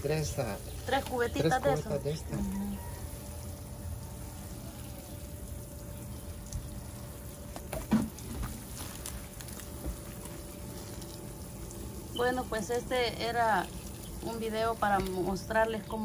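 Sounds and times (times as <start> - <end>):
watering can sprinkling on mulch: 0.0 - 16.0.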